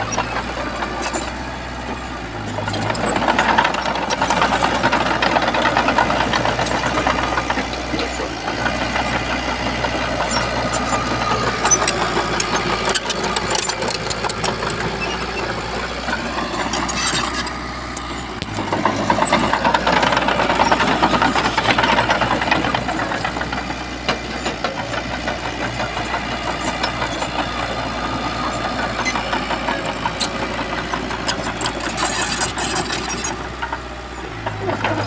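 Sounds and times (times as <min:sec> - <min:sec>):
bulldozer diesel engine under load: 0:00.0 - 0:35.0.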